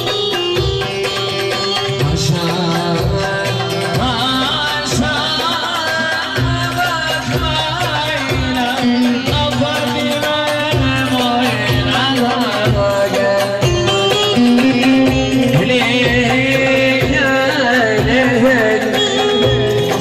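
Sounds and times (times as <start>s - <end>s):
saz melody over loudspeakers: 0.0s - 20.0s
steady drum beat: 0.0s - 20.0s.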